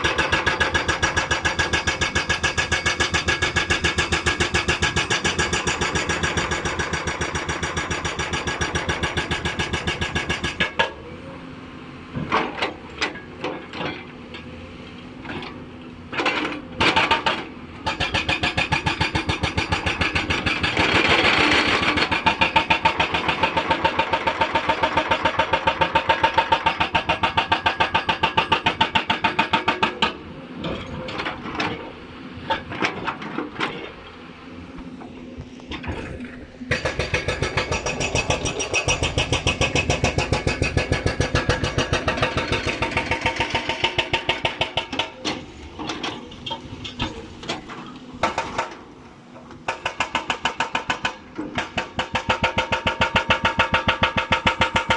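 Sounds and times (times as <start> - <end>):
hydraulic breaker hammering rock: 0.0 - 11.0, 16.2 - 31.8, 35.7 - 48.8, 49.5 - 54.9.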